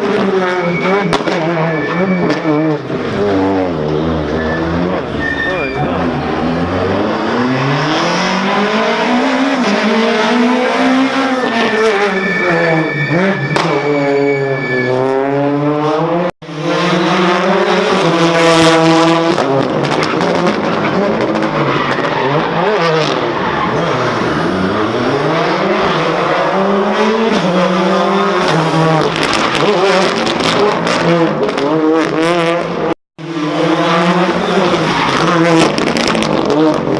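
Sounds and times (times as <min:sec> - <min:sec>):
rally car engines revving: 0:00.0 - 0:36.9.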